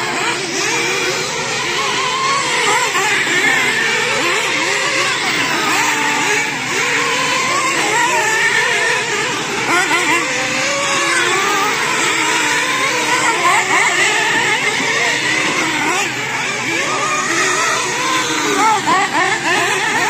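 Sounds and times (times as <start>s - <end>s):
rc car motors whining: 0.0s - 20.0s.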